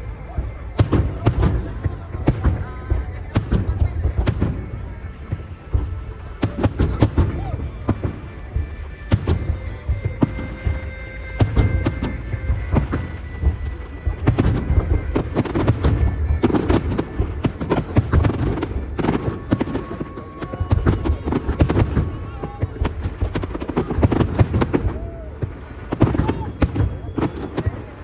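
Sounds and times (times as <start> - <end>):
fireworks bursts and crackling: 0.0 - 28.0.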